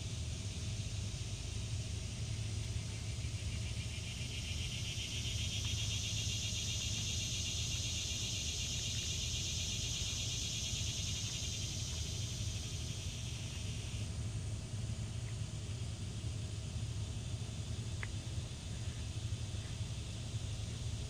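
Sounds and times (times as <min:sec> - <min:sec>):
high pulsing insect buzz: 0:00.0 - 0:21.0
low constant rumble: 0:00.0 - 0:21.0.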